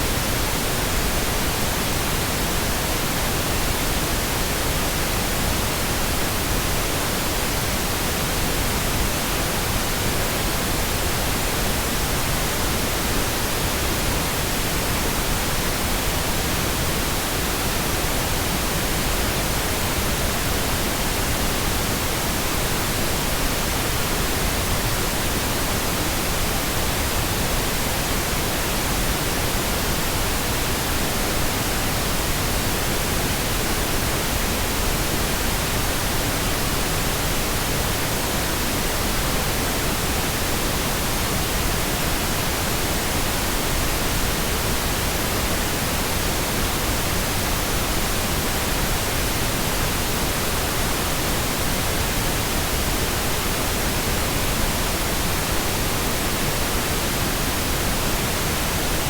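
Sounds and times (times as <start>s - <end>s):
pink noise hiss: 0.0s - 59.0s.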